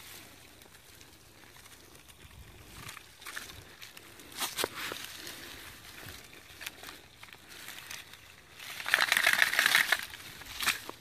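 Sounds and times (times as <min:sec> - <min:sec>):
cable crunching on dry leaves: 0:00.0 - 0:11.0.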